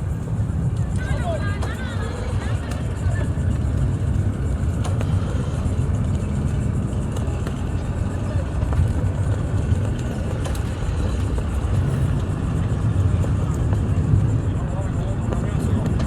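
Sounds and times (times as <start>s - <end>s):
engines idling: 0.0s - 16.0s.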